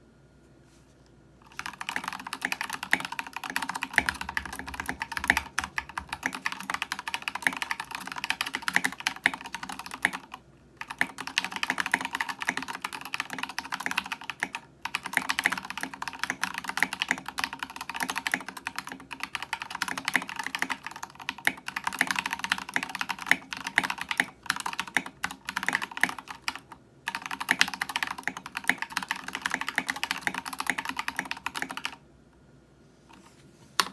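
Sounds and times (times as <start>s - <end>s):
fast typing on mechanical keyboard: 1.4s - 32.0s.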